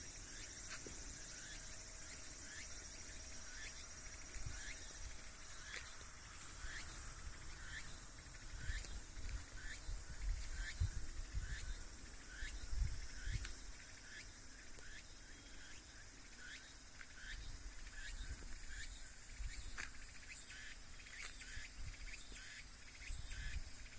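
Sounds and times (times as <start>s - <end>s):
insects chirping in chorus: 0.0s - 23.9s.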